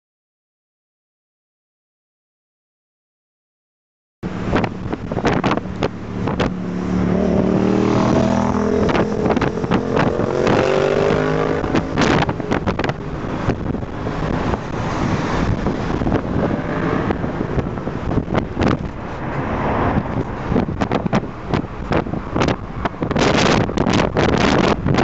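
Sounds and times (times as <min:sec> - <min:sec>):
road noise: 0:04.2 - 0:25.0
vehicle engine accelerating: 0:04.2 - 0:25.0
wind buffeting microphone: 0:04.2 - 0:25.0.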